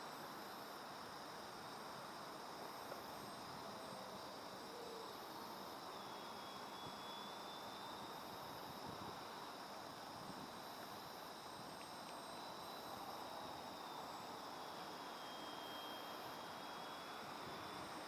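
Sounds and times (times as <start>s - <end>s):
crickets chirping: 0.0s - 18.0s
faint thin whine: 0.0s - 18.0s.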